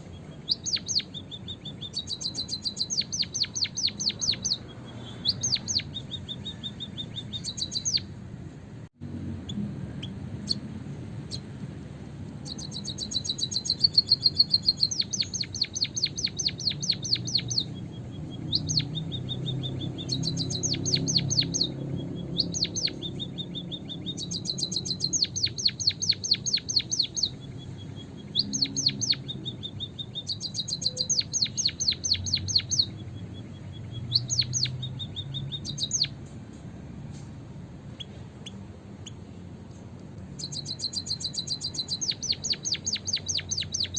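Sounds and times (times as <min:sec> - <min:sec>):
bird rapid high chirping: 0:00.0 - 0:08.2, 0:09.4 - 0:11.6, 0:12.4 - 0:39.4, 0:40.2 - 0:43.9.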